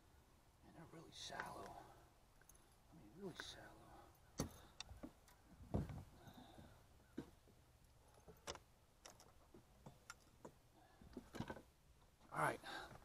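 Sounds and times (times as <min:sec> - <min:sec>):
faint clicks and knocks of gear: 0:01.3 - 0:01.8, 0:02.4 - 0:12.3.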